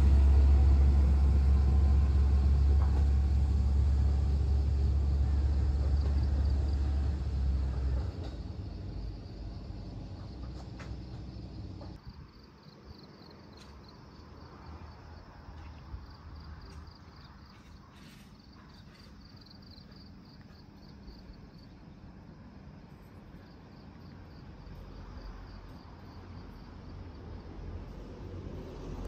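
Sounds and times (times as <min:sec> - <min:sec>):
insects chirping: 0:00.0 - 0:28.2
low outdoor rumble: 0:00.0 - 0:29.0.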